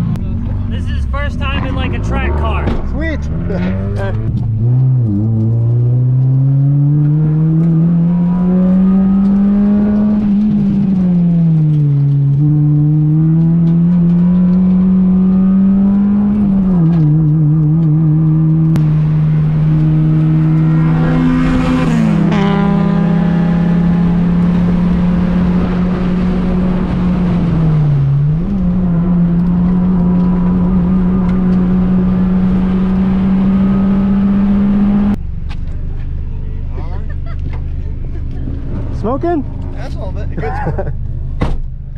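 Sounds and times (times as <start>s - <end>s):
car engine at high revs: 0.0s - 36.0s, 36.9s - 41.9s.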